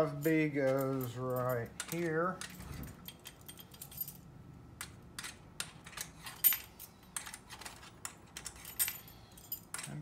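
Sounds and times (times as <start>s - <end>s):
metal keys clinking: 0.0s - 10.0s.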